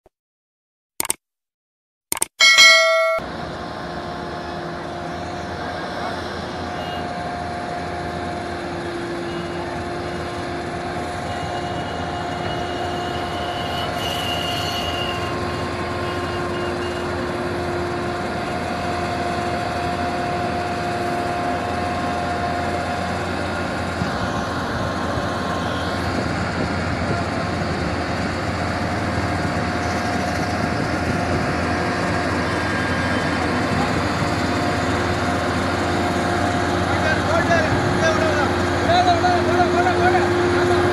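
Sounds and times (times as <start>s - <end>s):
lorry diesel engines under load: 2.4s - 40.9s.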